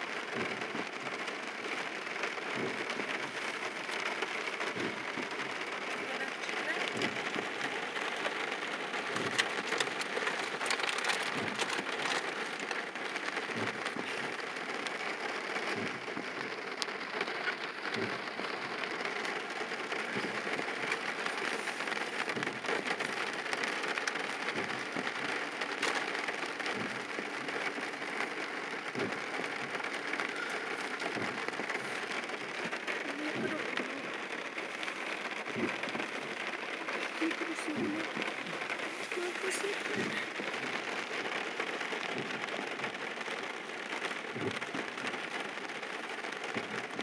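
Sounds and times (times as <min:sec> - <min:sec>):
rain pattering on car roof: 0:00.0 - 0:47.0.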